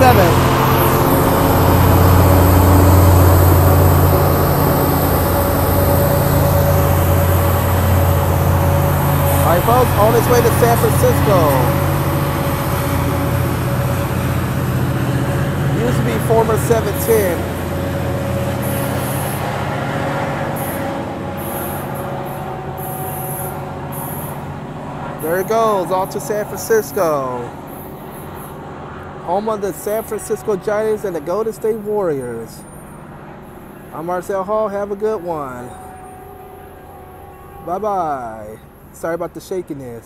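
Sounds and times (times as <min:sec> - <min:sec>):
diesel locomotive engine drone: 0:00.0 - 0:40.0
locomotive high whine: 0:00.0 - 0:40.0.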